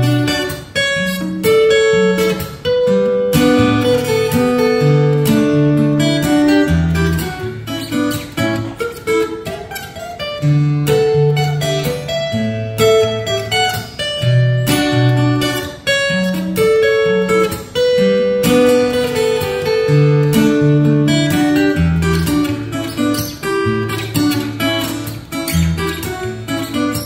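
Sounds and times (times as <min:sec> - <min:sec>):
fingerstyle acoustic guitar: 0:00.0 - 0:27.0.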